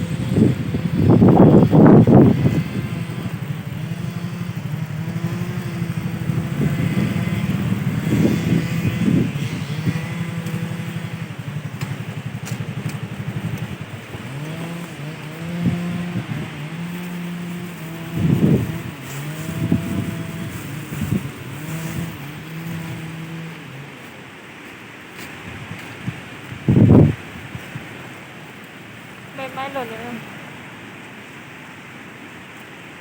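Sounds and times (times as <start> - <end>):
vehicle engine running: 0.0 - 30.7.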